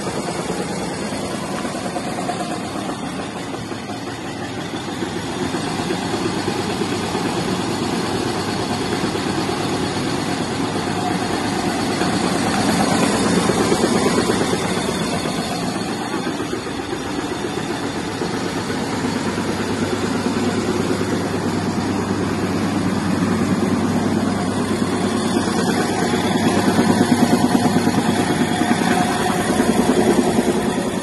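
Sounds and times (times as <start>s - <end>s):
machine pulsing mechanical drone: 0.0s - 31.0s.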